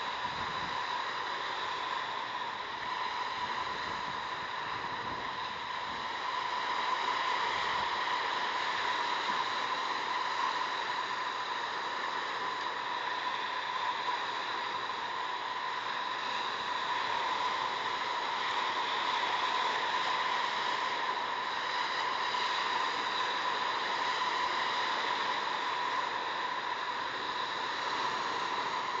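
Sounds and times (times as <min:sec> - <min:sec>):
steady hiss: 0:00.0 - 0:29.0
thin steady whine: 0:00.0 - 0:29.0.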